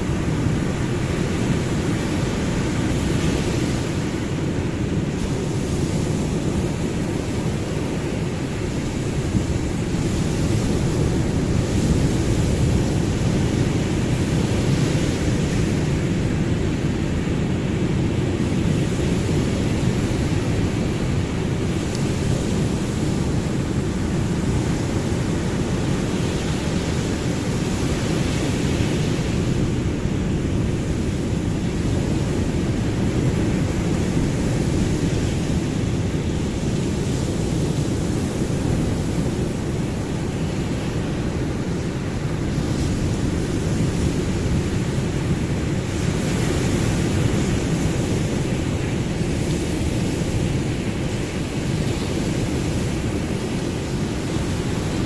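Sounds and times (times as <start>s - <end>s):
ocean surf washing: 0.0s - 55.0s.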